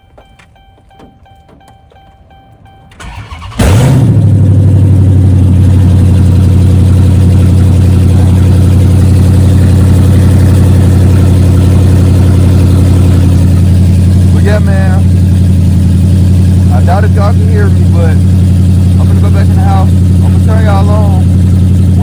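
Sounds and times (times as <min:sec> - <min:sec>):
car engine idling loudly: 0:03.3 - 0:22.0.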